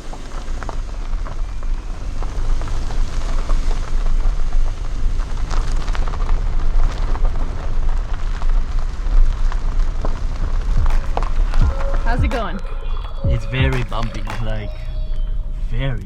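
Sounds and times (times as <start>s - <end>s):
crackling and popping from road: 0.0s - 16.0s
tyres rumbling on rough road: 0.0s - 16.0s.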